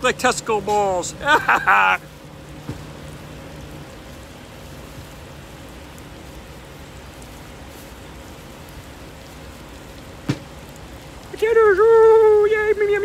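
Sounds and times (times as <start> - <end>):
low hum: 0.0 - 11.4
food sizzling in a pan: 0.1 - 12.6.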